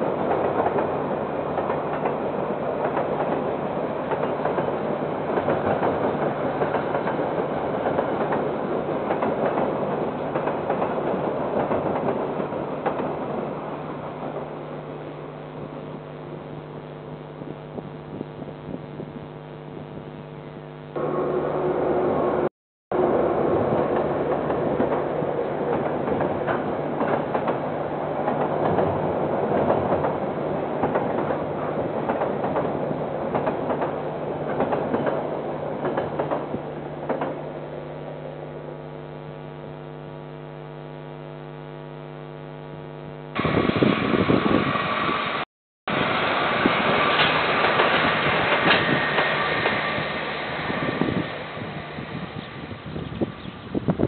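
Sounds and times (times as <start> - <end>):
train rolling on rails: 0.0 - 16.1, 21.0 - 38.6, 43.4 - 53.8.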